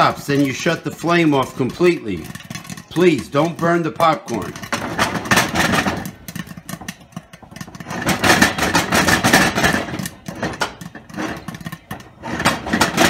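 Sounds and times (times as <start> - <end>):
popcorn popping in a pot: 0.0 - 13.0
pot rattling on burner grate: 0.0 - 13.0.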